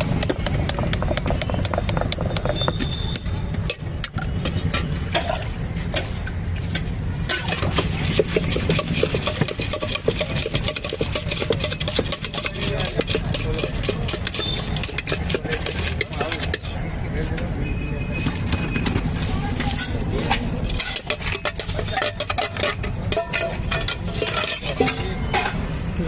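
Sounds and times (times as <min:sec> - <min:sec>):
spoon scraping metal bowl: 0:03.6 - 0:17.0, 0:18.2 - 0:25.9.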